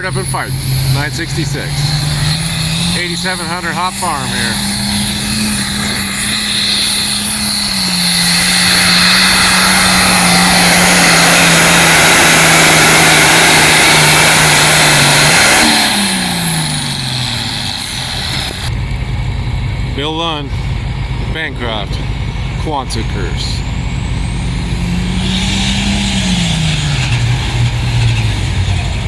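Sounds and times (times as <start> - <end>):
exhaust rushing: 0.0 - 29.0
high whine: 0.0 - 29.0
tractor engine at full throttle: 0.0 - 29.0.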